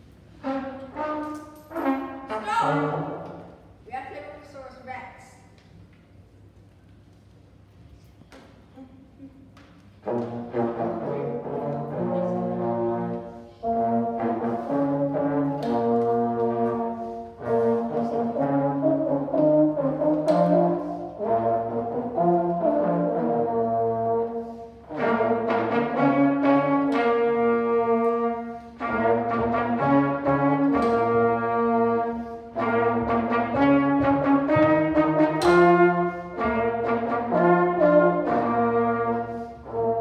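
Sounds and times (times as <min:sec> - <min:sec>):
brass quartet playing: 0:00.1 - 0:03.5, 0:10.0 - 0:40.0.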